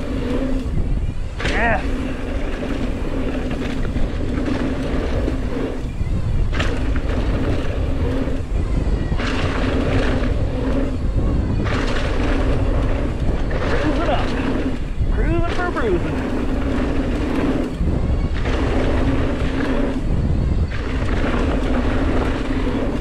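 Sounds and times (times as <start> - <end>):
low hum: 0.0 - 23.0
tyres rolling on dirt: 0.0 - 23.0
wind rushing over microphone: 0.0 - 23.0.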